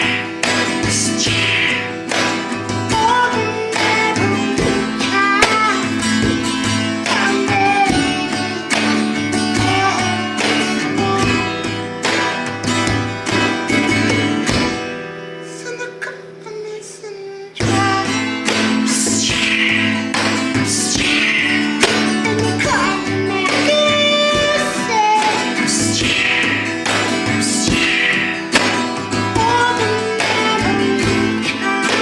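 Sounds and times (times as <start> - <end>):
plucked guitar music: 0.0 - 32.0.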